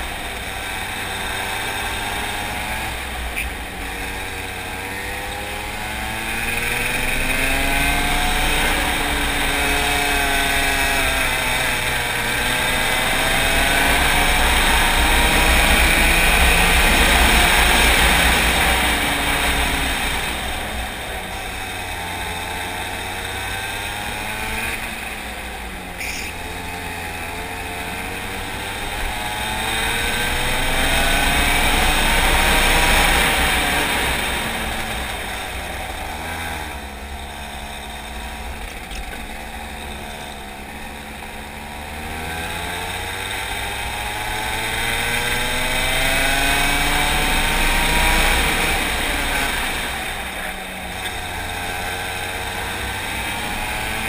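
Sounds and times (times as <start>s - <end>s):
go-kart engine: 0.0s - 54.0s
wind and tyre noise: 0.0s - 54.0s.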